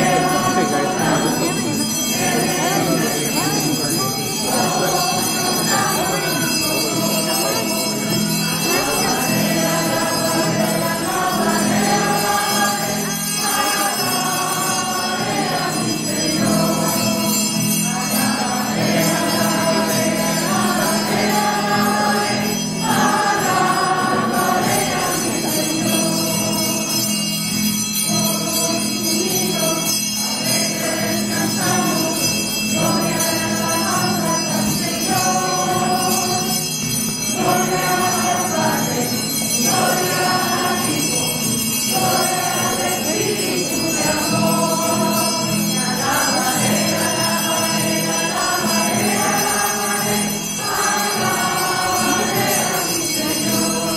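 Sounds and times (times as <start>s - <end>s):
choir singing a hymn: 0.0s - 53.9s.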